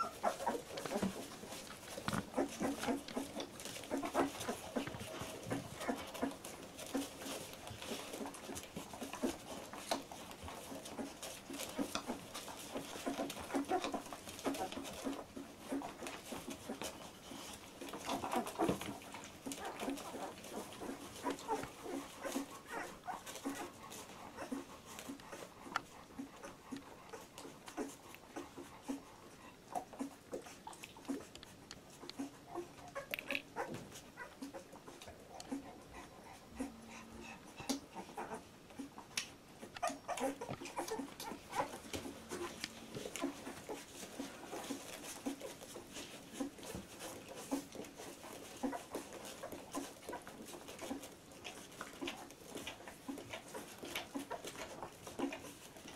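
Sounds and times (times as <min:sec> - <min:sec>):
puppies whimpering and squeaking: 0:00.0 - 0:55.9.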